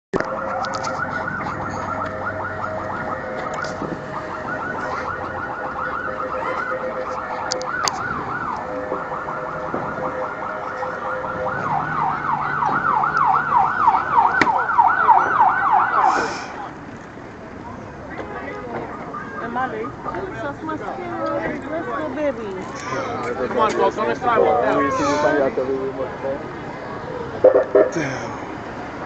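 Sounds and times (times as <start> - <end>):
emergency sirens yelping: 0.2 - 29.0.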